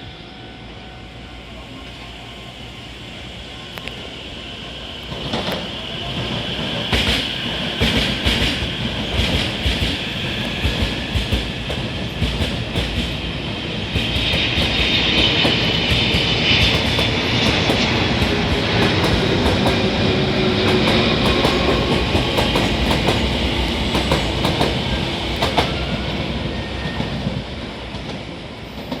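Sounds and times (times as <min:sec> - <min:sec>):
electric train pulling away: 0:00.0 - 0:29.0.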